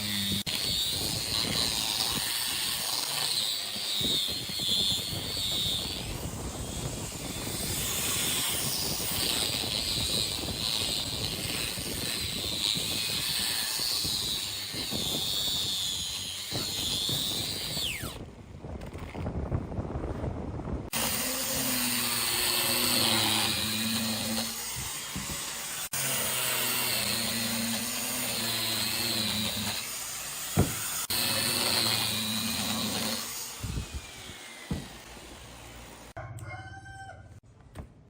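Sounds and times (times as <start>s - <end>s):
power tool whining and grinding: 0.0s - 18.2s, 20.9s - 36.2s.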